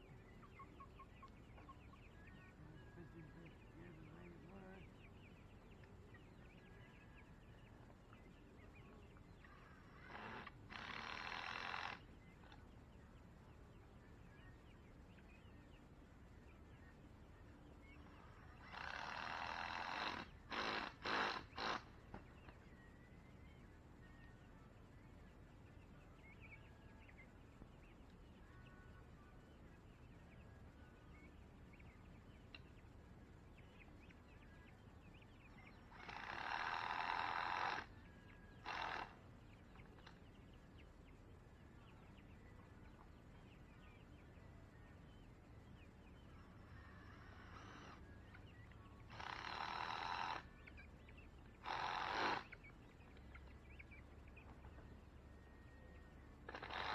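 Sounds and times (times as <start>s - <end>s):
faint bird calls: 0.0s - 56.9s.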